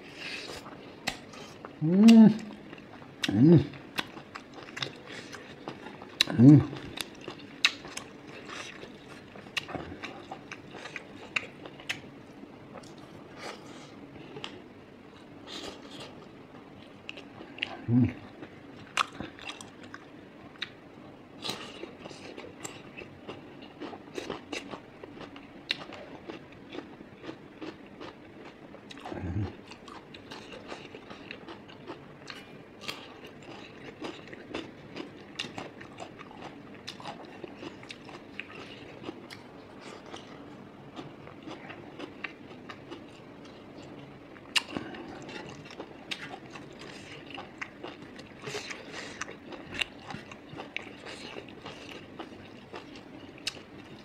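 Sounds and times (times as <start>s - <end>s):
chewing and lip-smacking: 0.5s - 20.8s, 21.4s - 54.0s.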